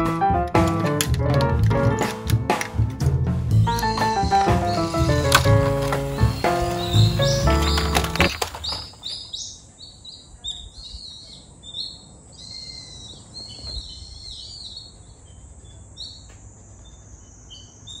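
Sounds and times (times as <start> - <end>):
birds chirping: 3.5 - 18.0.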